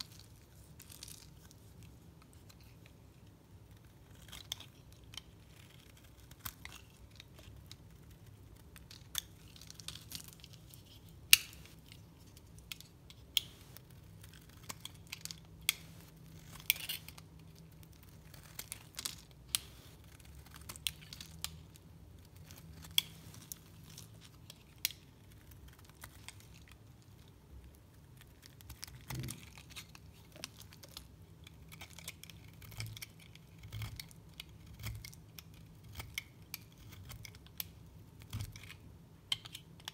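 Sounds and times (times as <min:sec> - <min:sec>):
knife carving soap: 0:00.0 - 0:39.9.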